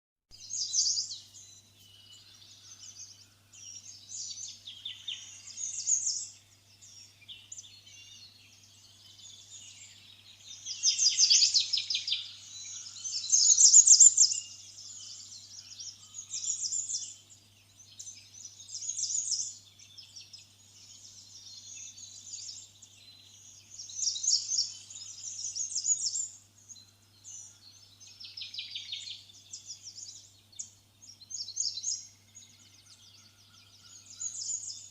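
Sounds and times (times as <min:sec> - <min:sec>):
songbirds chirping and trilling: 0:00.3 - 0:34.9.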